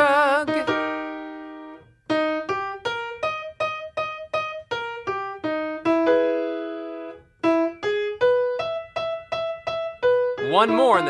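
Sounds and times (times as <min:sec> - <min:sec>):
piano scale exercise: 0:00.0 - 0:11.0.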